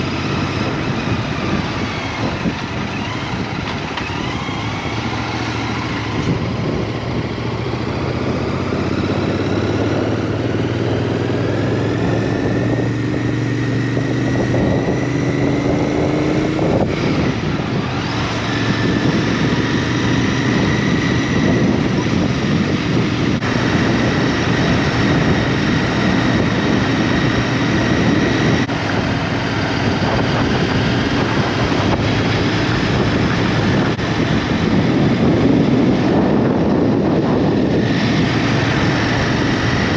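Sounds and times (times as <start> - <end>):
small motorcycle engine running: 0.0 - 39.9.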